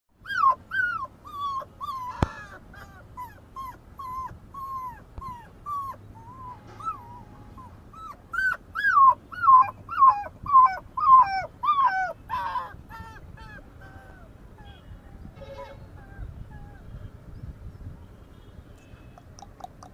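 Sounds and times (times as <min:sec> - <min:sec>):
puppy whimpering: 0:00.2 - 0:15.2, 0:15.9 - 0:16.9.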